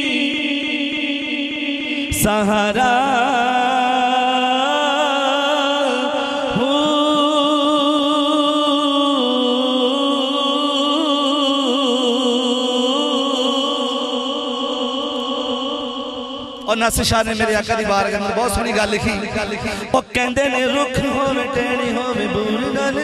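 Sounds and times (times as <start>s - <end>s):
man singing into microphone: 0.0s - 23.0s.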